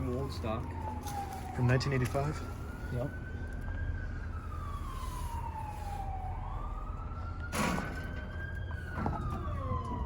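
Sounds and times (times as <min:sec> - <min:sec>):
siren wailing: 0:00.0 - 0:10.0.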